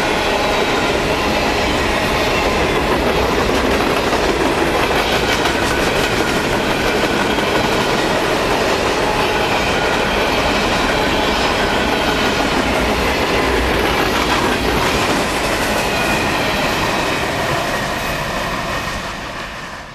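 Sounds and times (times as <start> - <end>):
train wheels clattering on rails: 0.0 - 19.9.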